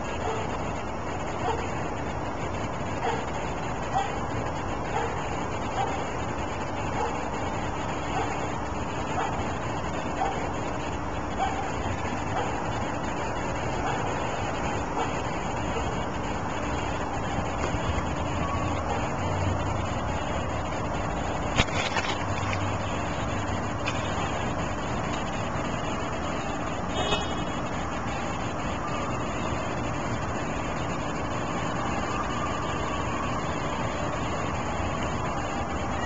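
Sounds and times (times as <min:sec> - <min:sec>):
low rumble and hum: 0:00.0 - 0:36.0.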